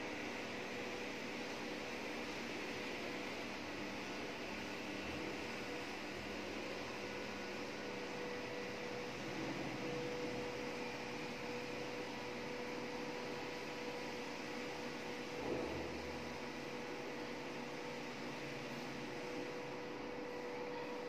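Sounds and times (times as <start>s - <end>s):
home lift mechanical hum: 0.0s - 21.0s
faint lift whine: 2.7s - 21.0s.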